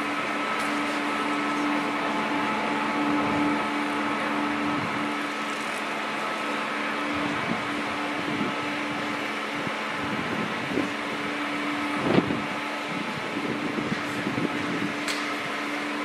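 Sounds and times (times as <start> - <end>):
hydraulic motor hum with whine: 0.0 - 16.0.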